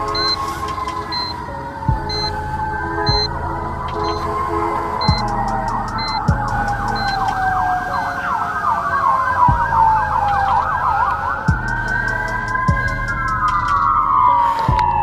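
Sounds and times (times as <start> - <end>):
thumping beat: 0.0 - 4.4, 5.0 - 8.1, 9.5 - 10.8, 11.4 - 15.0
siren wail: 0.0 - 15.0
siren yelp: 0.0 - 15.0.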